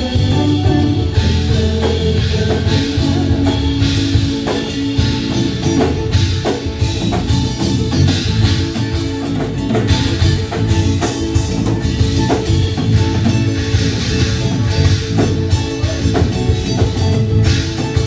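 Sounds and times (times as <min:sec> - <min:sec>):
smooth jazz band playing: 0:00.0 - 0:18.0.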